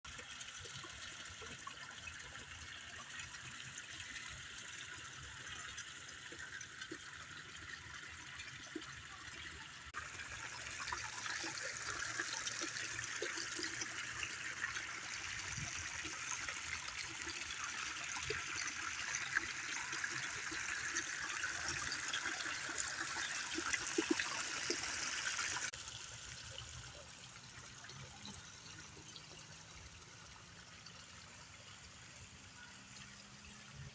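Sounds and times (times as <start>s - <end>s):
water trickling and splashing: 0.1s - 33.9s.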